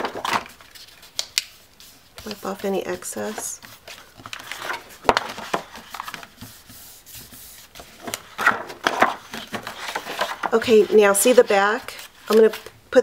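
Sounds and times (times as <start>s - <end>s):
paper rustling: 0.0s - 12.8s.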